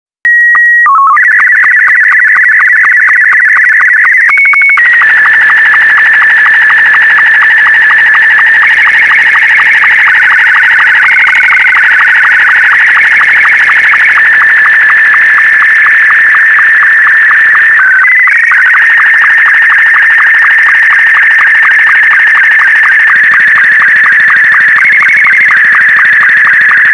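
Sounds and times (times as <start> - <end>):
warbling data signal: 1.0 - 26.9.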